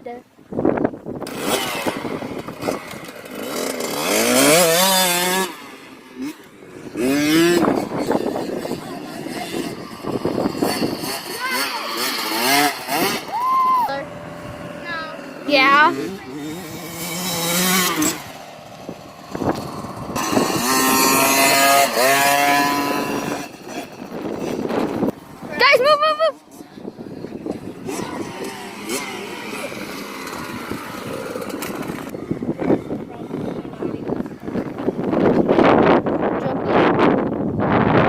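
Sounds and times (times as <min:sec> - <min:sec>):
small dirt bike engine revving: 0:01.1 - 0:38.0.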